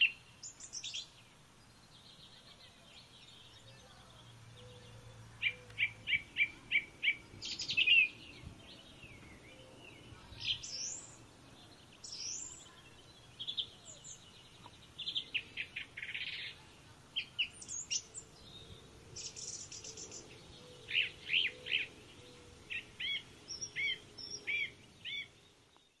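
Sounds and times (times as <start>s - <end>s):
songbirds chirping and whistling: 0.0s - 26.0s.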